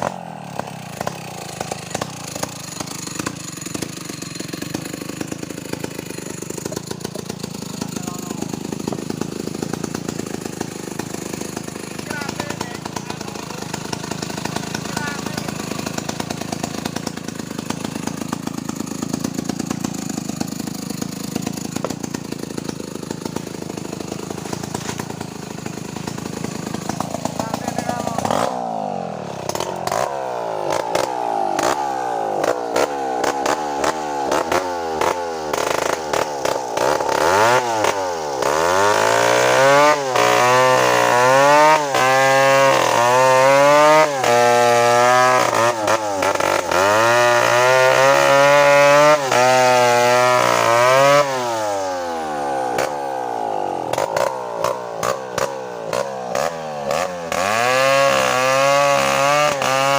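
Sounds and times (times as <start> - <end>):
chainsaw cutting under load: 0.0 - 59.9.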